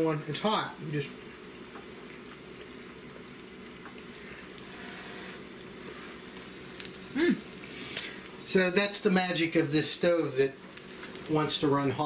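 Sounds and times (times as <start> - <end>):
hot food sizzling: 0.0 - 12.0.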